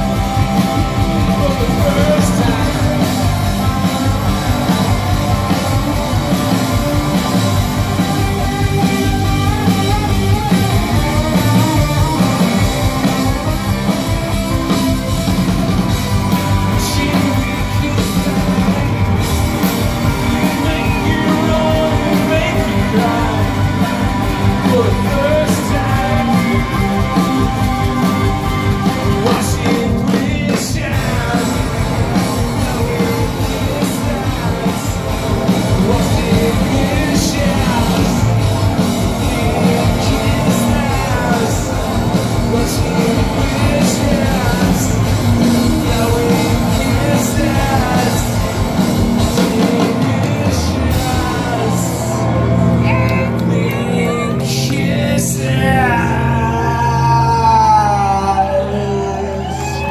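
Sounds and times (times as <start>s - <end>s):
lead vocalist singing: 0.0s - 59.9s
live rock band playing: 0.0s - 59.9s.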